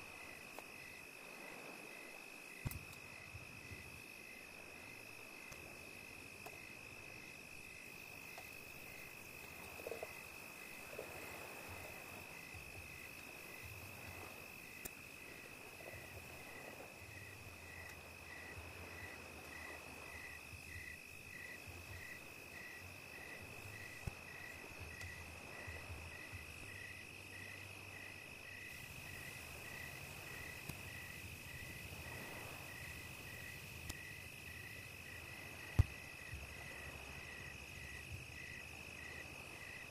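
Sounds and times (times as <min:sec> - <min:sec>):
insect pulsing call: 0:00.0 - 0:39.9.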